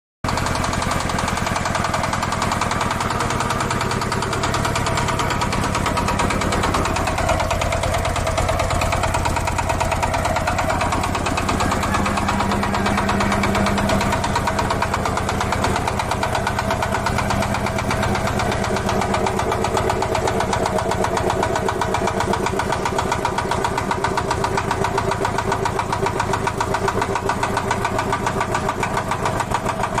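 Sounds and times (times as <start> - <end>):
diesel engine running: 0.2 - 30.0.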